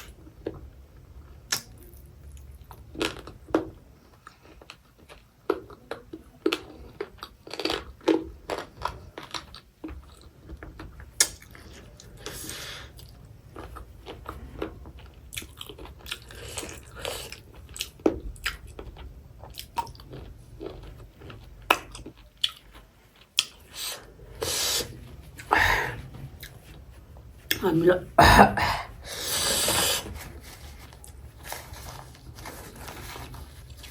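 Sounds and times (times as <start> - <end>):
person chewing crunchy food: 0.0 - 27.6, 28.3 - 33.9.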